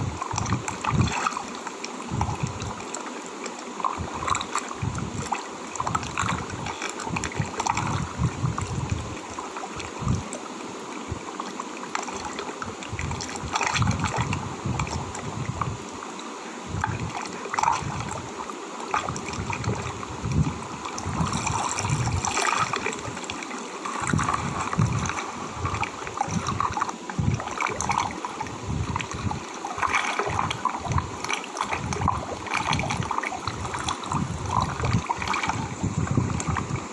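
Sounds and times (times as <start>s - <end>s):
water gurgling and sloshing: 0.0s - 36.9s.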